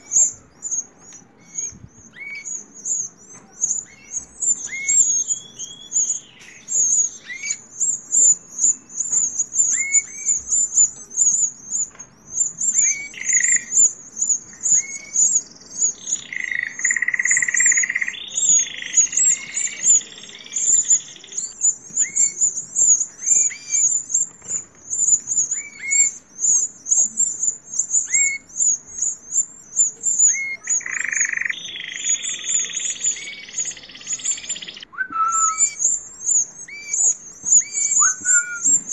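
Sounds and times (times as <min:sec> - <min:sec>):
canaries whistling: 0:00.0 - 0:38.9
chicks peeping rapidly: 0:00.0 - 0:38.9.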